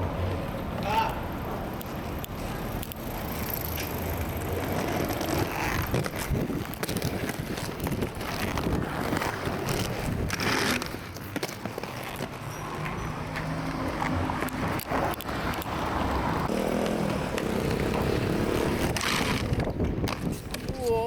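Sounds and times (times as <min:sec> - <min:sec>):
skate wheels rolling on rough pavement: 0:00.0 - 0:21.0.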